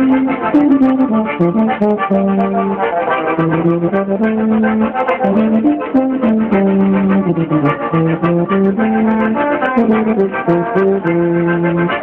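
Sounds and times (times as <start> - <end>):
brass and wind band playing: 0.0 - 12.0.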